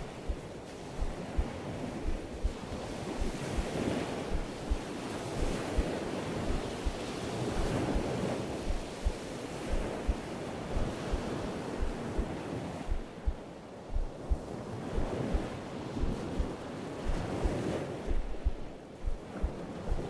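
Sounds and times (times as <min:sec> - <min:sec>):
heartbeat thumps: 0:00.0 - 0:20.0
wind on microphone: 0:00.0 - 0:20.0.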